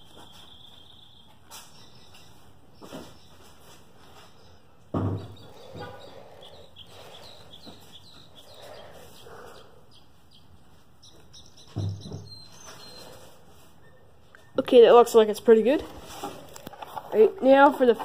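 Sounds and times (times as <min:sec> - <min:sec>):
small bird chirping: 0:00.0 - 0:04.6, 0:05.2 - 0:15.3.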